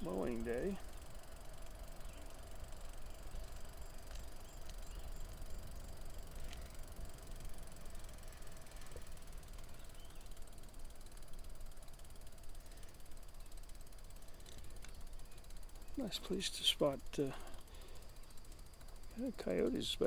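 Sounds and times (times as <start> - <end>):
freewheel ticking: 0.0 - 20.0
low rumble of tyres: 0.0 - 20.0
wind: 0.0 - 20.0.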